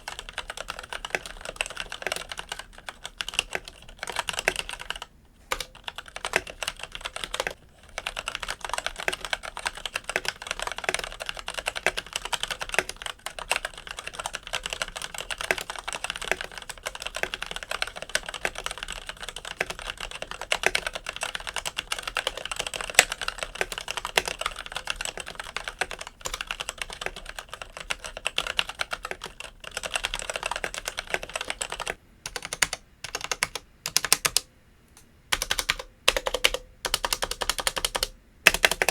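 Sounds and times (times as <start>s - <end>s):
mechanical keyboard typing: 0.0s - 34.5s, 35.3s - 38.9s.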